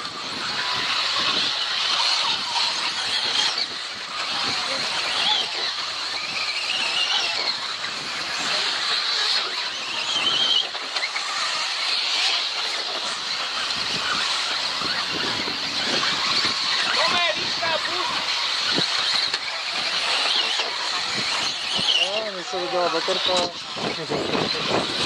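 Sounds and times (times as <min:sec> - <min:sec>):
rc car motors whining: 0:00.0 - 0:25.0.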